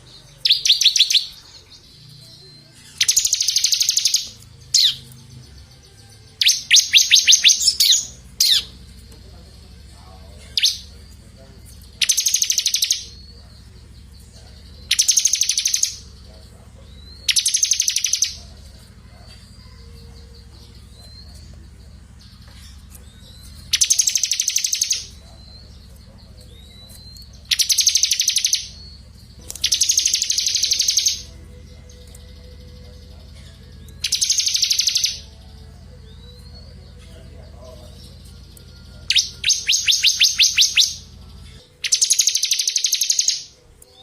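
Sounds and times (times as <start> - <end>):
songbird buzzy trill: 0.0 - 44.0
steady low hum: 0.0 - 44.0.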